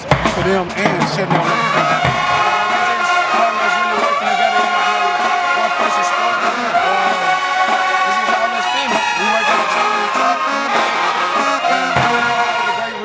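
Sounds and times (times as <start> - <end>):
brass band music: 0.0 - 13.0.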